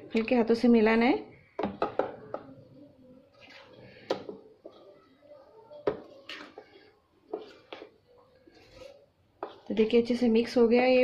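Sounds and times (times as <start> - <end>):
spoon stirring batter in bowl: 0.0 - 10.8.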